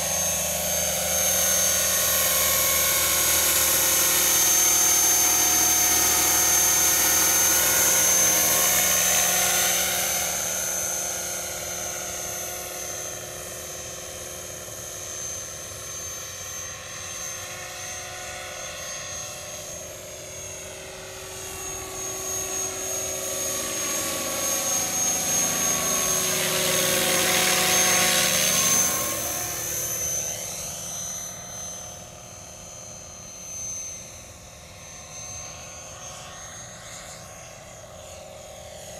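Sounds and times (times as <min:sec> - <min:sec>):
model helicopter whining: 0:00.0 - 0:38.9.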